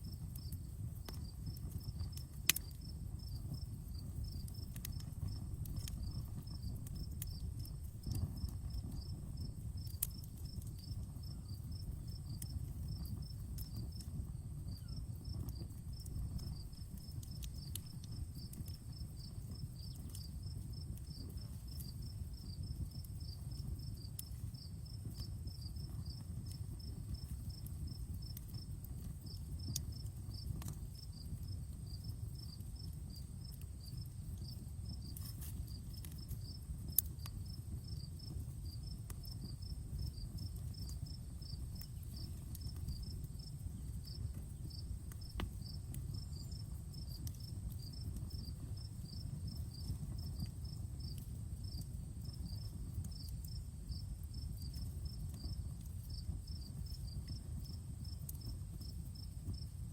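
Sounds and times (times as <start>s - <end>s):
campfire burning: 0.0s - 59.9s
crickets chirping: 0.0s - 59.9s.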